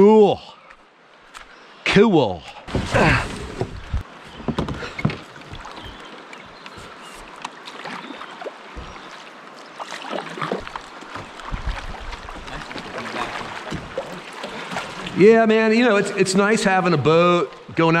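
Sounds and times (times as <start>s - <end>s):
rushing river water: 2.6s - 18.0s
paddle strokes splashing: 2.7s - 17.9s
water washing along hull: 2.7s - 18.0s.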